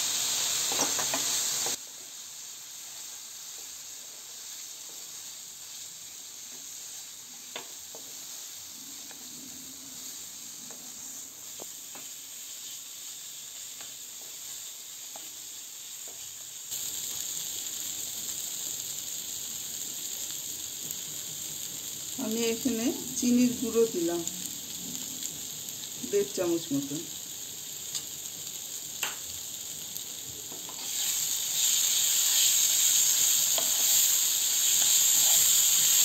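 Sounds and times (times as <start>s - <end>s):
spice paste sizzling in oil: 0.0s - 36.0s.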